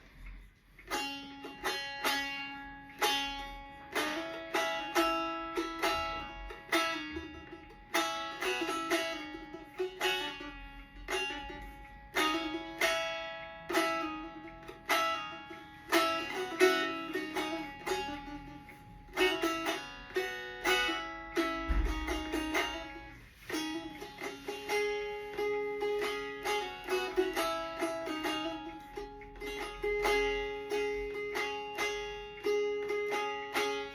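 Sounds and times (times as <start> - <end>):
plucked string instrument solo: 0.0 - 33.9.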